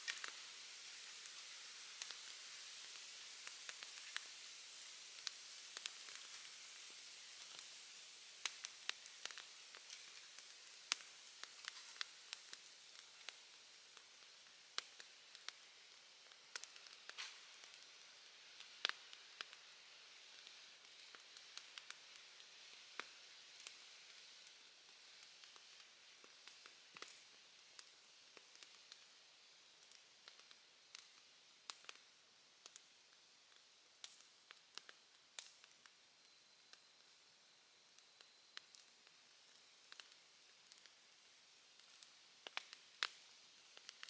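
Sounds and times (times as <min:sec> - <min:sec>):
campfire crackling: 0:00.0 - 0:44.0
faint hiss: 0:00.0 - 0:44.0.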